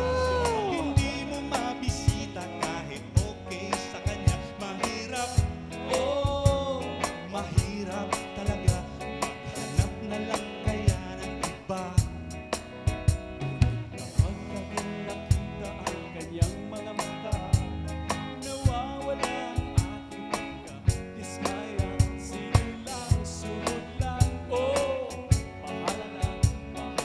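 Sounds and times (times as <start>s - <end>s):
live band playing pop: 0.0s - 27.0s.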